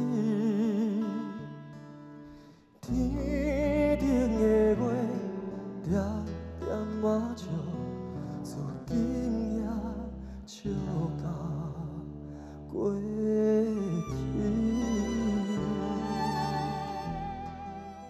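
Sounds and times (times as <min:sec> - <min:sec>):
man singing with vibrato: 0:00.0 - 0:01.6, 0:02.8 - 0:12.1, 0:12.7 - 0:18.0.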